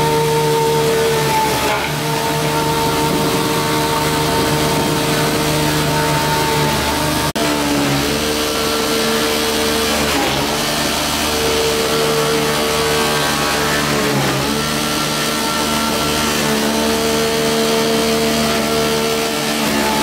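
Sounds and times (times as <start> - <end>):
corn crusher motor running: 0.0 - 20.0.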